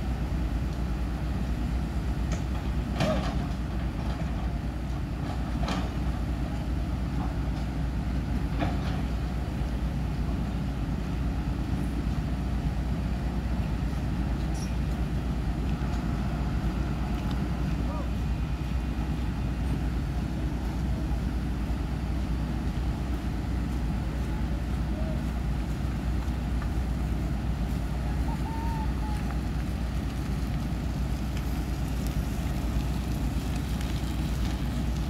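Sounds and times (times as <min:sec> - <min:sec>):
crane diesel engines rumbling: 0:00.0 - 0:35.0.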